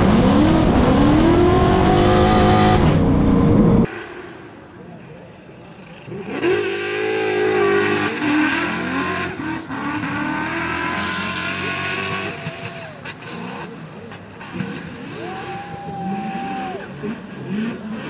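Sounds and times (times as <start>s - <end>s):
car engine revving: 0.0s - 4.3s, 5.8s - 18.0s.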